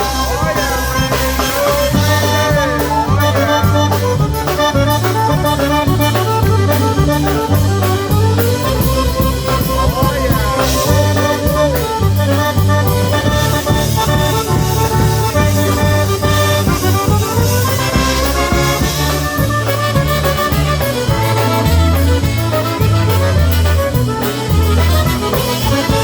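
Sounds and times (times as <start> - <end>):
polka band playing: 0.0 - 26.0.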